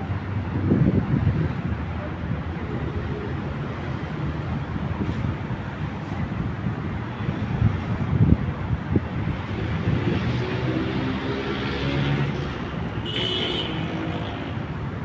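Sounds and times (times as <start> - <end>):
street traffic noise: 0.0 - 15.0
vehicle engine hum passing: 2.9 - 15.0.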